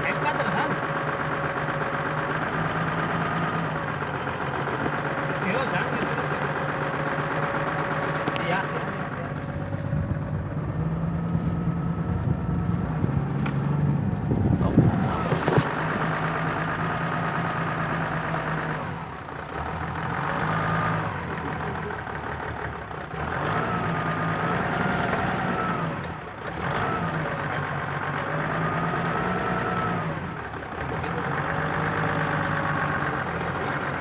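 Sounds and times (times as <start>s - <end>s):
vehicle engine under load: 0.0s - 34.0s.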